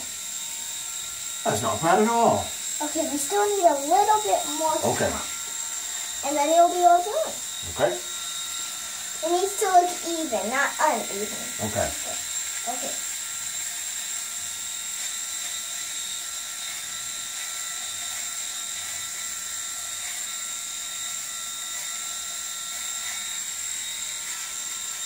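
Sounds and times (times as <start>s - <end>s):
electric shaver whine: 0.0s - 25.0s.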